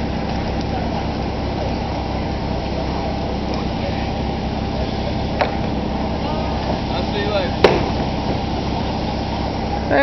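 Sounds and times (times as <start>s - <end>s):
faint voices talking: 0.0s - 10.0s
low mechanical hum: 0.0s - 10.0s.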